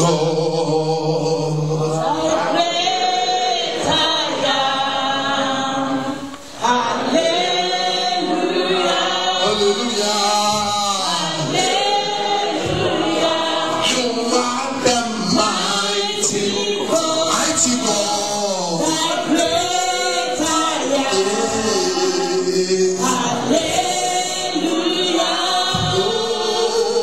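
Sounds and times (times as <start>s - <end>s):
congregation singing: 0.0s - 27.0s.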